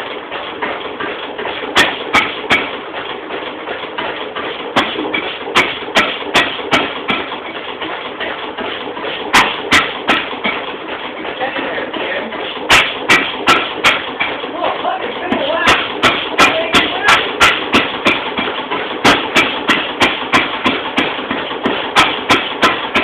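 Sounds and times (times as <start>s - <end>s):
sharp engine cracks: 0.0s - 23.0s
stationary engine rattling: 0.0s - 23.0s.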